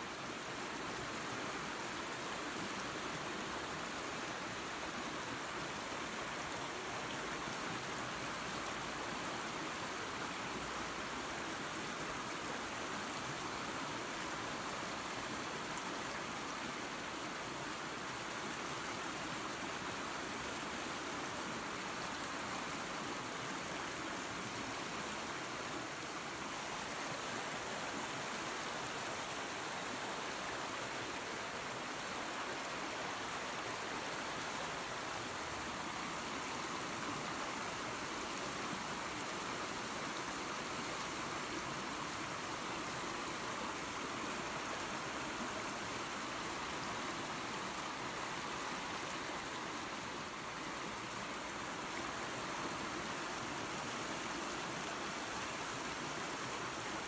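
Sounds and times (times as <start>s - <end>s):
creek water and small waterfall: 0.0s - 57.0s.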